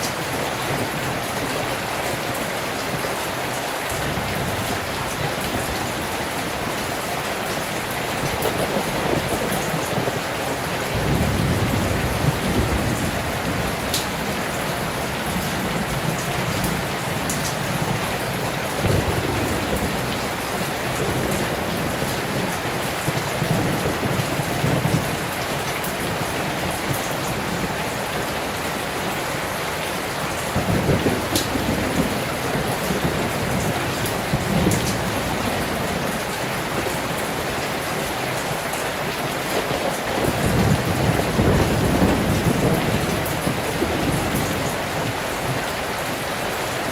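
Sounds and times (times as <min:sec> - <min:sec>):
heavy rain heard from indoors: 0:00.0 - 0:46.9.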